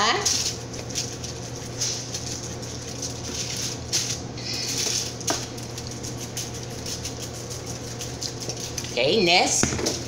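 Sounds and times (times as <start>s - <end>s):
seasoning shaker rattling: 0.0s - 10.0s.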